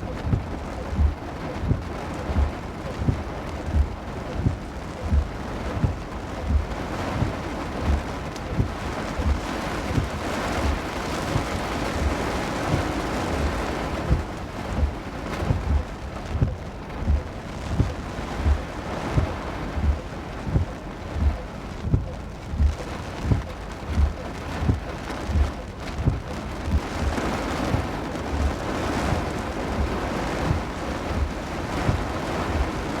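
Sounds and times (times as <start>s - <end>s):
heavy rain: 0.0s - 33.0s
wind: 0.0s - 33.0s
low regular thump: 0.2s - 32.8s.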